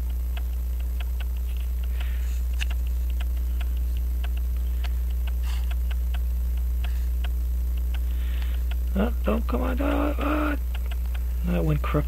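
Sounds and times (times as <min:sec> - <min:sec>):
light regular ticking: 0:00.0 - 0:12.0
low electrical hum: 0:00.0 - 0:12.0.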